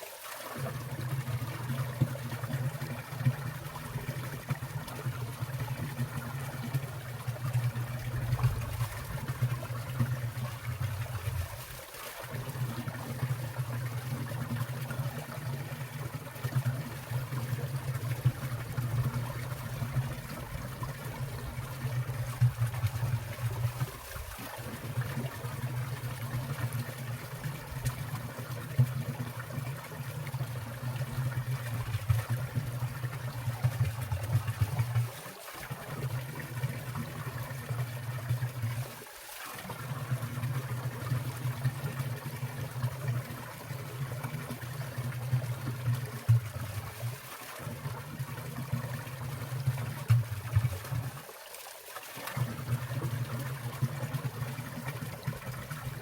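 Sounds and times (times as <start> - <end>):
small water splashes: 0.0 - 56.0
stream running over rocks: 0.0 - 56.0.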